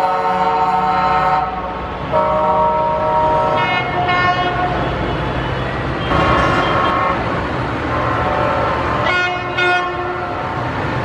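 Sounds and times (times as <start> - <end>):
truck horns blasting: 0.0 - 10.6.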